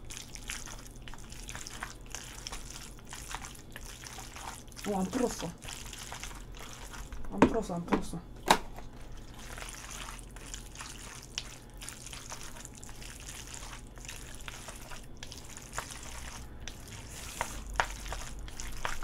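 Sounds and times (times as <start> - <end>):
sticky noodles squelching: 0.0 - 7.3, 8.9 - 19.0.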